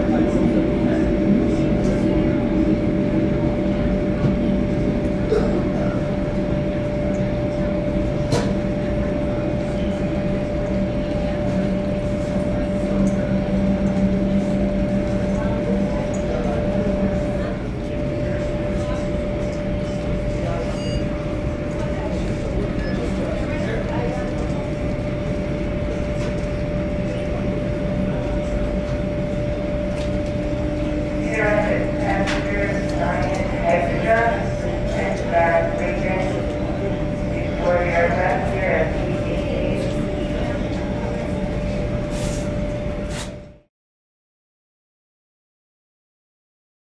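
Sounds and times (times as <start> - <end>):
airliner cabin engine hum: 0.0 - 43.7
mid-pitched whine: 0.0 - 43.7.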